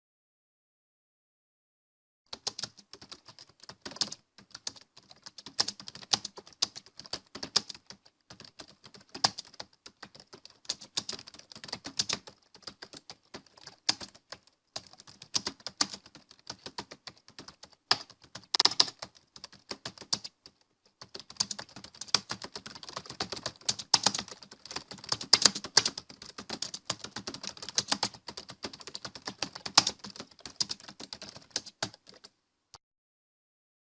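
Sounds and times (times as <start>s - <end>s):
computer keyboard typing: 2.3s - 32.3s.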